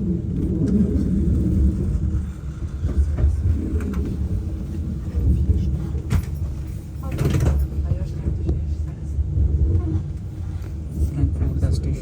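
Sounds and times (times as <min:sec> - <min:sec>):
low rumble of railway station: 0:00.0 - 0:12.0.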